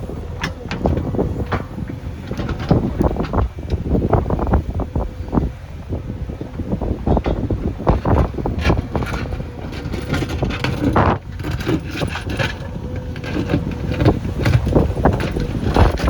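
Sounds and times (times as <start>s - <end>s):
knocks clanks and scraping: 0.0s - 5.4s, 6.6s - 16.0s
diesel engine rumbling: 0.0s - 16.0s
wind buffeting microphone: 0.0s - 16.0s.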